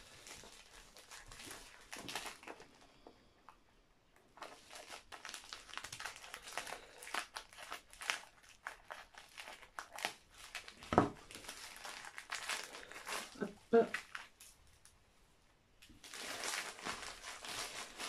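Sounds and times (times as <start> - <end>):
plastic crinkling: 0.0 - 15.0, 15.8 - 18.0.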